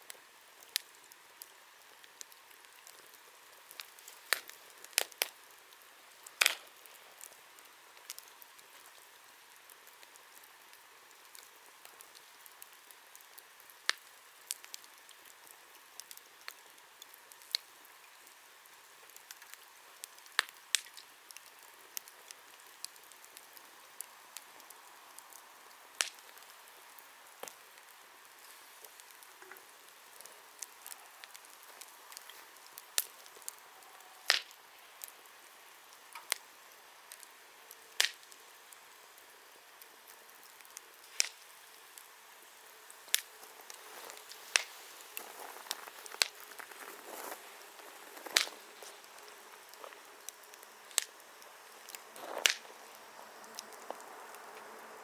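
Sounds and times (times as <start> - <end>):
hiss of burning: 0.0 - 55.0
wood fire crackling: 0.0 - 55.0.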